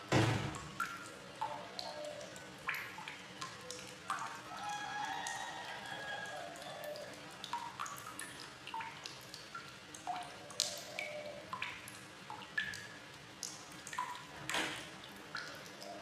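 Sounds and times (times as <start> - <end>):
water drops plinking: 0.5 - 5.5, 6.5 - 16.0.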